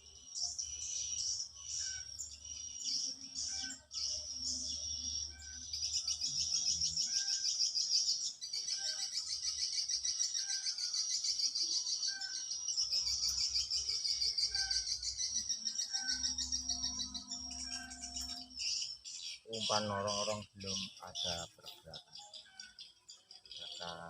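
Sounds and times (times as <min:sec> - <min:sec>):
birds chirping trill: 0:00.0 - 0:24.0.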